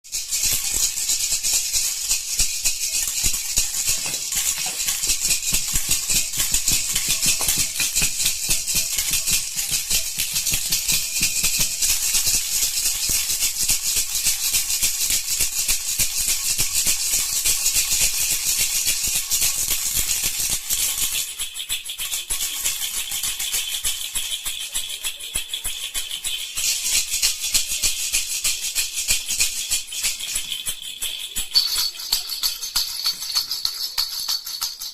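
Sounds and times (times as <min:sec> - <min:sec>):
toy rattle shaken rapidly: 0:00.0 - 0:34.9.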